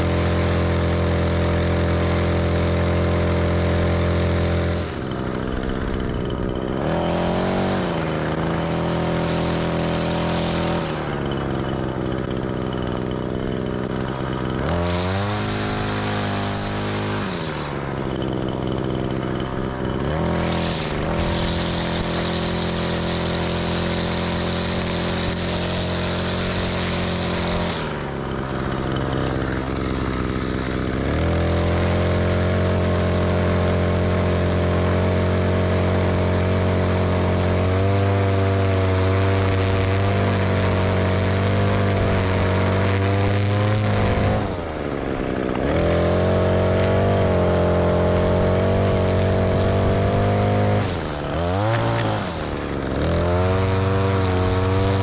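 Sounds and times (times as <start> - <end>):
string trimmer running: 0.0 - 55.0.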